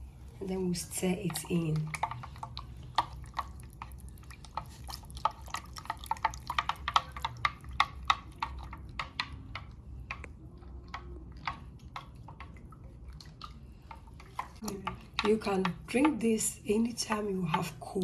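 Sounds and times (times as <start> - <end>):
liquid sloshing: 0.0 - 18.0
stirrer clicking against container: 0.4 - 18.0.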